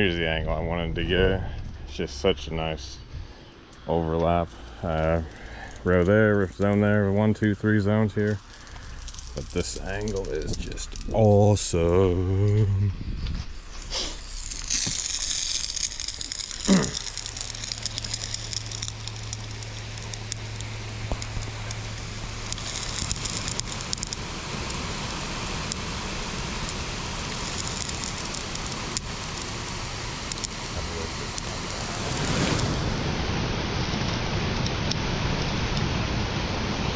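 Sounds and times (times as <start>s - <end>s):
low steady hum: 0.0s - 36.9s
sprinklers spraying water: 4.2s - 12.6s, 13.5s - 36.9s.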